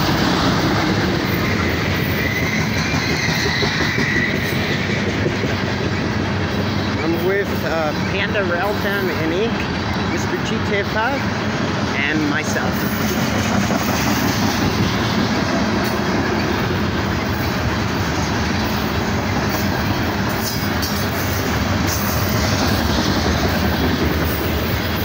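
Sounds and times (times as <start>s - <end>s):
steel wheels clattering on rail: 0.0s - 25.0s.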